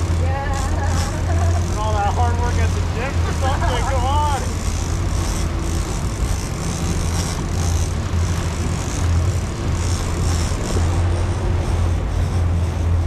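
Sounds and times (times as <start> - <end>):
outboard engines droning: 0.0 - 13.0
water rushing: 0.0 - 13.0
wind: 0.0 - 13.0.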